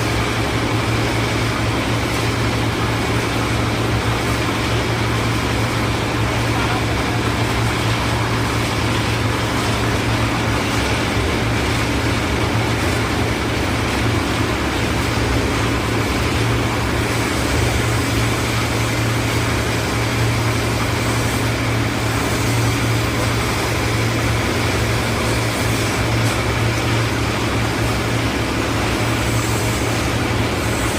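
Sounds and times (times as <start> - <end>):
concrete mixer engine running: 0.0 - 30.9.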